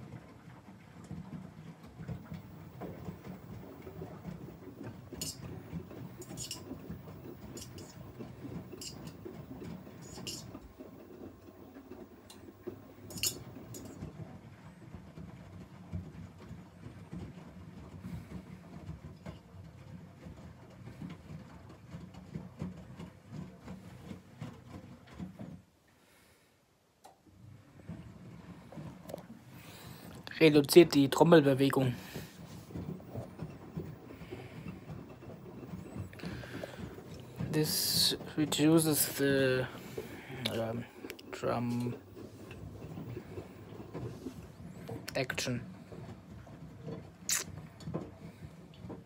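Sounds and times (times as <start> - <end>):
washing machine drum churning: 0.0 - 25.8, 27.2 - 49.0.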